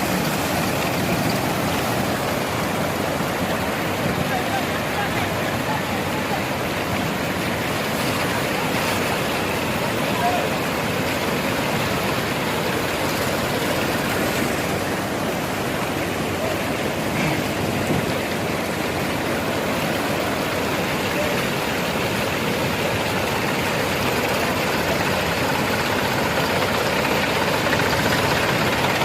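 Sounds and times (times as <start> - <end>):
tractor engine running: 0.0 - 29.0
waterfall rushing: 0.0 - 29.0.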